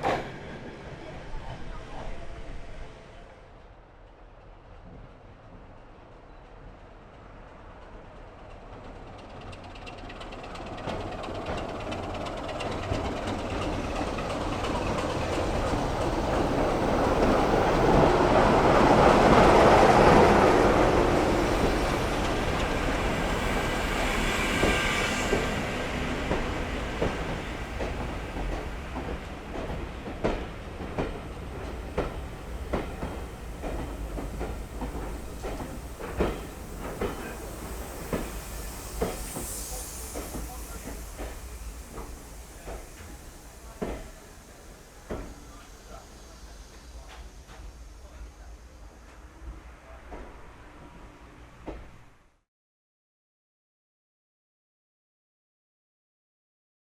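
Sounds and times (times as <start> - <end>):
train passing: 0.0 - 52.4.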